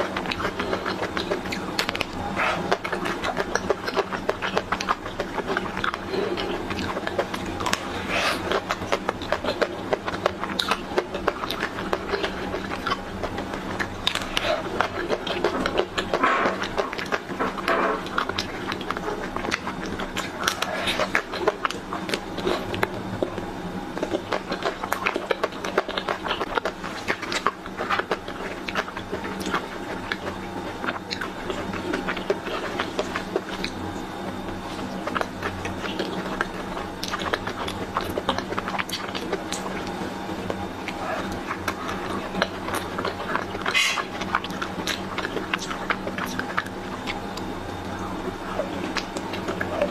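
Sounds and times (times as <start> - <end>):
wet chewing and mouth clicks: 0.0 - 49.9.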